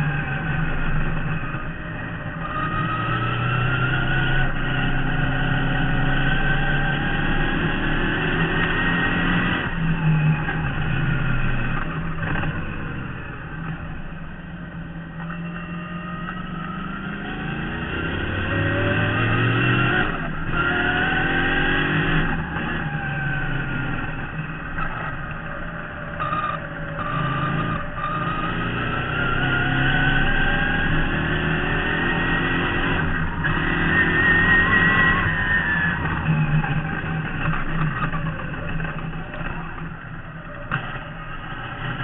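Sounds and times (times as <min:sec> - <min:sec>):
race car engine revving: 0:00.0 - 0:14.0, 0:15.2 - 0:42.0.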